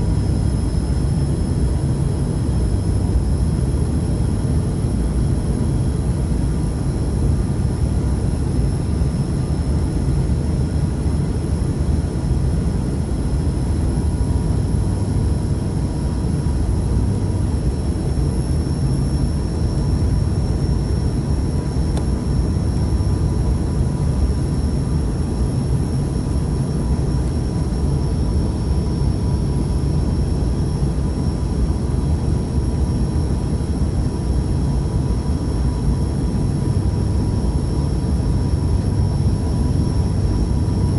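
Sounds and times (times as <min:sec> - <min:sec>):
airliner jet engines rumbling: 0:00.0 - 0:40.9
faint steady whine: 0:00.0 - 0:40.9.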